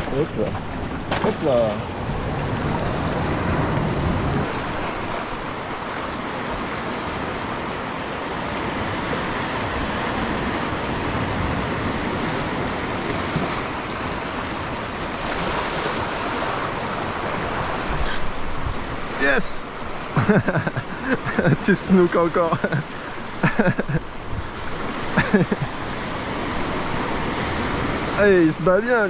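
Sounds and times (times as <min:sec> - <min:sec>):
surf washing over rocks: 0:00.0 - 0:29.0.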